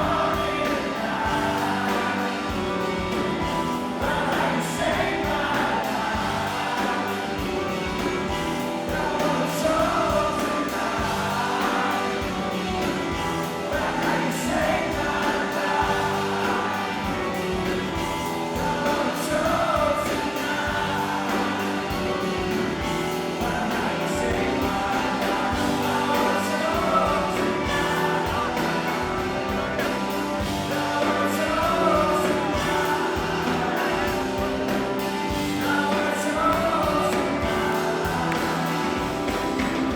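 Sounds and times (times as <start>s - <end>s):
lead vocal singing: 0.0s - 39.9s
rock band playing live: 0.0s - 39.9s.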